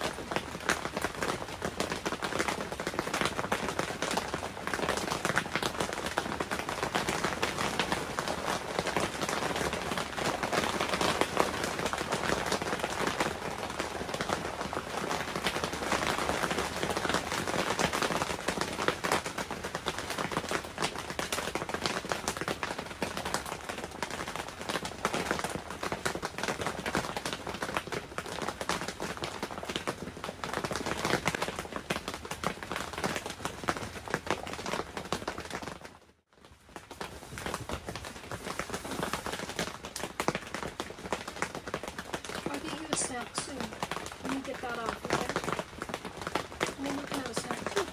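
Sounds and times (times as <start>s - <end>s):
rain pattering on plastic tent: 0.0s - 47.9s.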